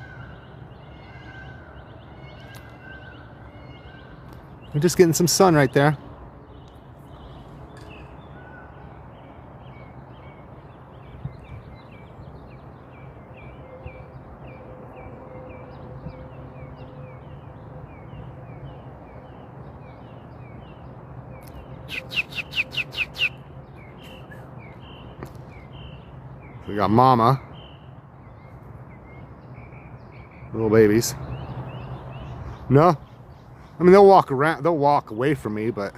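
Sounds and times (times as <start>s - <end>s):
small birds chirping: 0.0s - 35.9s.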